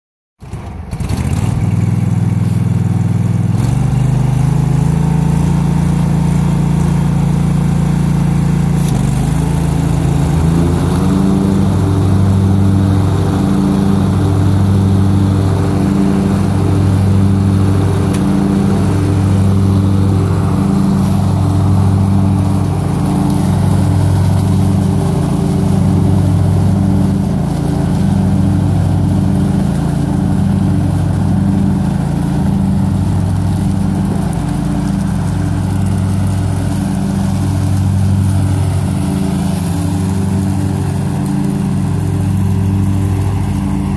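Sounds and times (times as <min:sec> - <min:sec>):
riding lawn mower engine: 0:00.4 - 0:43.9.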